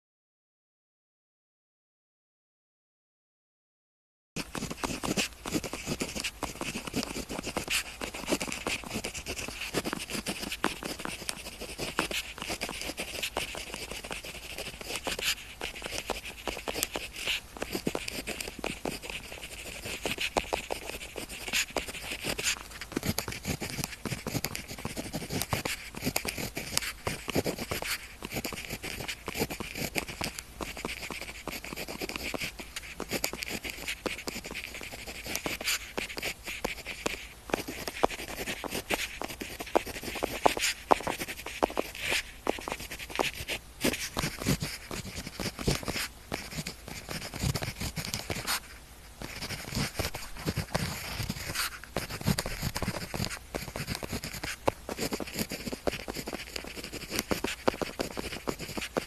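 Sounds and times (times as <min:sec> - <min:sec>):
pen scratching on paper: 0:04.4 - 0:59.0.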